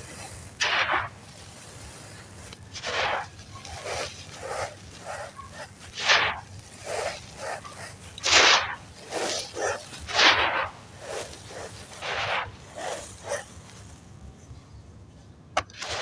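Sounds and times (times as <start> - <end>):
dry sand crumbling in clay pot: 0.0 - 14.7, 15.5 - 16.0.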